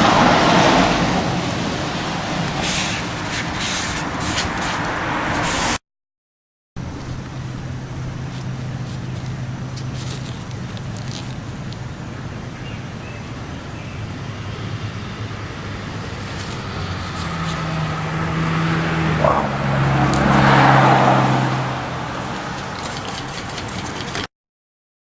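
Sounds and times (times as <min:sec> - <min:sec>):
motor vehicle passing: 0:00.0 - 0:05.8, 0:06.8 - 0:24.3.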